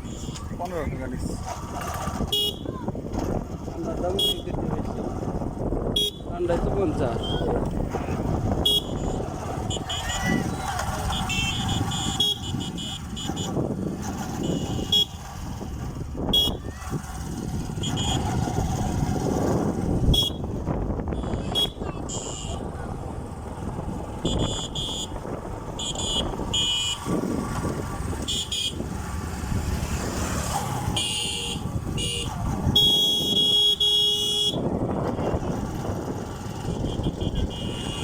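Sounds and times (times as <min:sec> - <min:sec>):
vehicle horns honking: 0:00.0 - 0:00.5, 0:02.0 - 0:03.0, 0:04.1 - 0:04.8, 0:05.9 - 0:22.8, 0:23.8 - 0:29.2, 0:30.6 - 0:38.0
motorcycle engine: 0:00.0 - 0:38.0
wind and road noise: 0:00.0 - 0:38.0.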